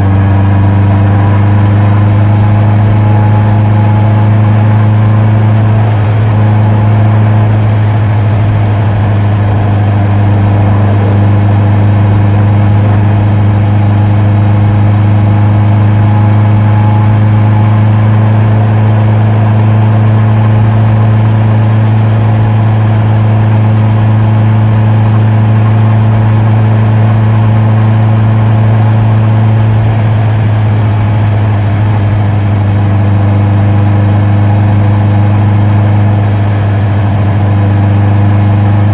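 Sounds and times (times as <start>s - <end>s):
motorcycle engine and exhaust running: 0.0s - 38.9s.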